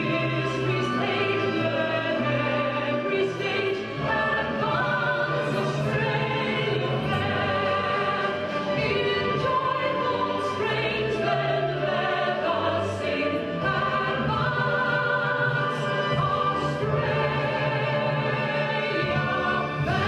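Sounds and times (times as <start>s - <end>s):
orchestral anthem with choir singing: 0.0s - 20.0s.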